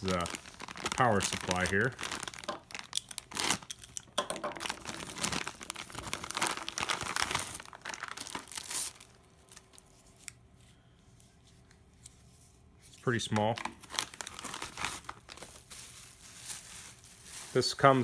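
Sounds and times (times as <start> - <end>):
plastic bag crinkling: 0.0 - 10.3, 13.0 - 18.0.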